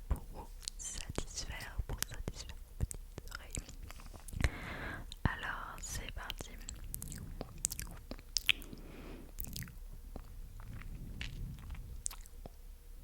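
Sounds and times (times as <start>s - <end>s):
wet mouth clicks and smacks: 0.1s - 4.4s, 5.1s - 12.6s.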